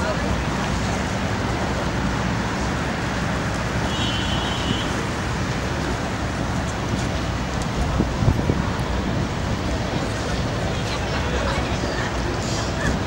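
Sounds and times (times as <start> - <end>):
low traffic hum: 0.0 - 13.0.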